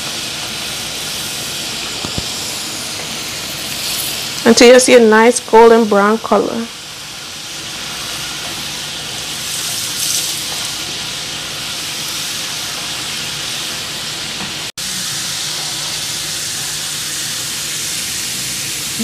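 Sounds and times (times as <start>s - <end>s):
fries sizzling in oil: 0.0s - 19.0s.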